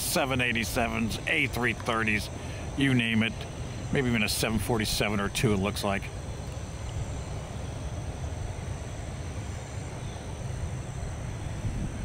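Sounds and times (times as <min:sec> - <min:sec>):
faint high insect drone: 0:00.0 - 0:12.0
jet engines rumbling: 0:00.0 - 0:12.0.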